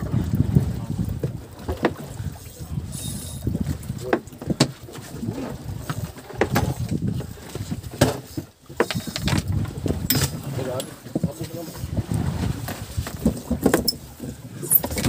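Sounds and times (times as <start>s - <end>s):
sharp knocks and clatters on boat: 0.0s - 2.4s, 3.4s - 15.0s.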